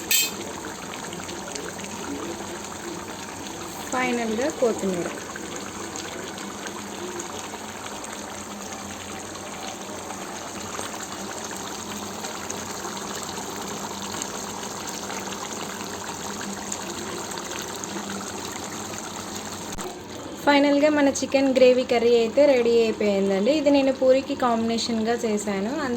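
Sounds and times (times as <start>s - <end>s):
curry bubbling in a pot: 0.3s - 25.9s.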